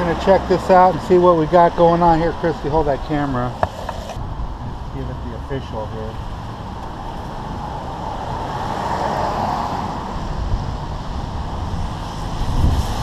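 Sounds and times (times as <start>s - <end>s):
road traffic: 0.0s - 13.0s
wind rumbling on microphone: 0.4s - 13.0s.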